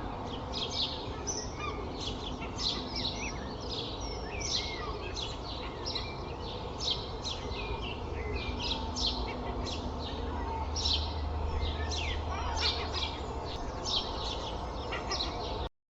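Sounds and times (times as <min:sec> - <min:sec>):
low traffic rumble: 0:00.0 - 0:15.7
small birds chirping and trilling: 0:00.0 - 0:15.7.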